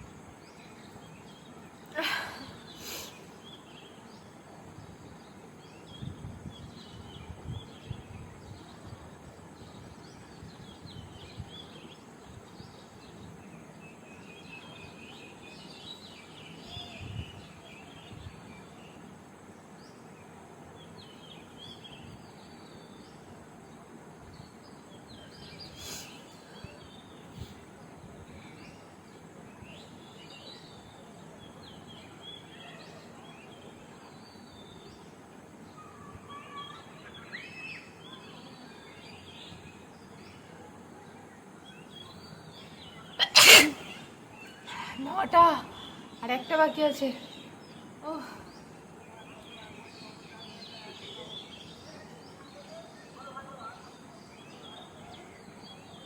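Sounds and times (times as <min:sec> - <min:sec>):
faint high bird chirping: 0:00.0 - 0:19.1, 0:24.3 - 0:56.0
steady hiss: 0:00.0 - 0:50.8.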